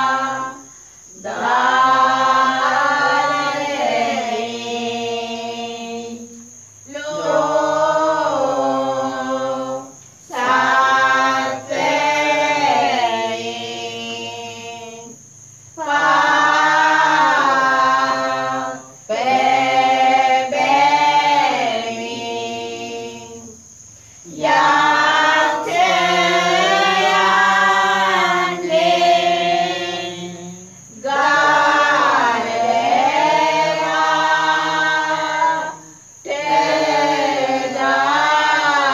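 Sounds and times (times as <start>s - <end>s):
group singing a hymn unaccompanied: 0.0s - 38.9s.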